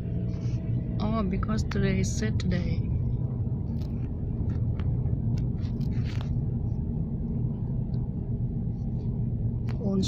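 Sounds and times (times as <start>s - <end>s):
vehicle rumbling: 0.0s - 10.0s.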